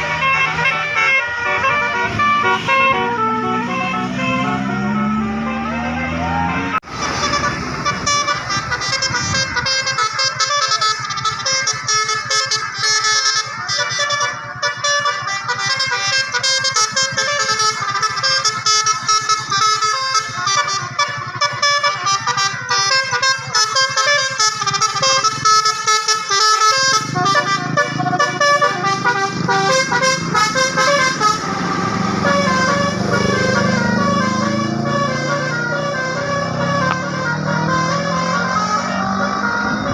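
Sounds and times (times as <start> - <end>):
multi-tone air horn melody: 0.0 - 39.9.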